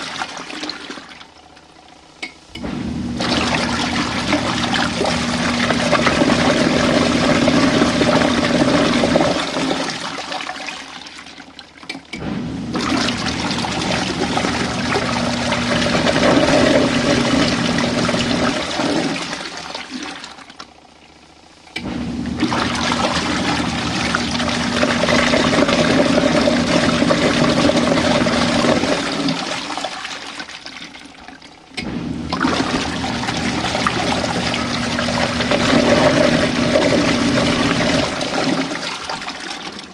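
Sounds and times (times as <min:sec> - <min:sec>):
water rushing in washing machine: 0:00.0 - 0:39.9
steady machine hum: 0:01.6 - 0:10.1, 0:12.1 - 0:29.9, 0:31.5 - 0:39.7.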